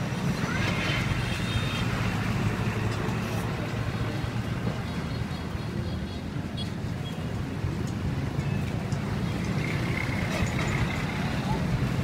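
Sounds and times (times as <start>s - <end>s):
street traffic engine rumble: 0.0s - 12.0s.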